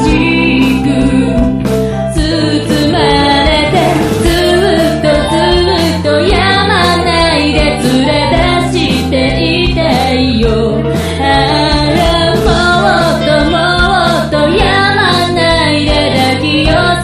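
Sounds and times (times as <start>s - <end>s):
band playing: 0.0s - 17.0s
woman singing: 0.0s - 17.0s.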